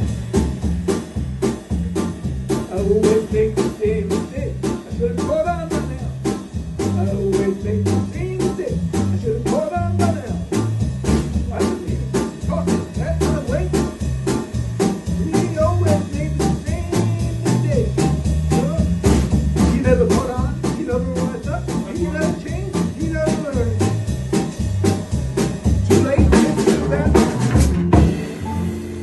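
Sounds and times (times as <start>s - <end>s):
bass: 0.0s - 29.0s
drum kit steady beat: 0.0s - 29.0s
harmonica lead melody: 0.0s - 29.0s
keyboard chords: 0.0s - 29.0s.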